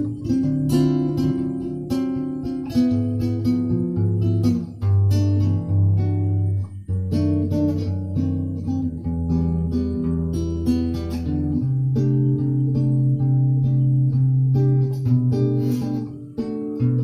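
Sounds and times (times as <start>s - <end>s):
guitar music: 0.0s - 17.0s.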